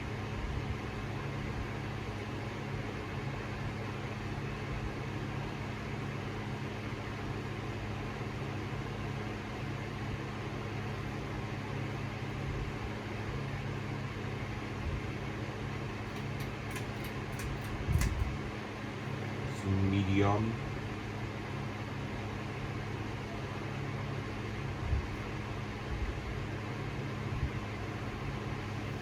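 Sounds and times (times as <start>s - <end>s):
ceiling fan motor hum: 0.0s - 29.0s.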